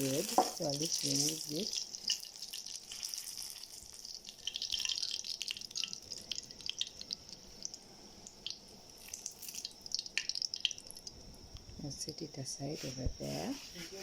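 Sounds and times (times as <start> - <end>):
garlic sizzling in oil: 0.0 - 13.5.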